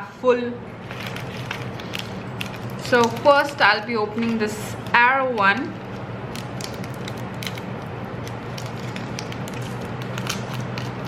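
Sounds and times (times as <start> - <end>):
chocolate wrapper crinkling: 0.8 - 11.0.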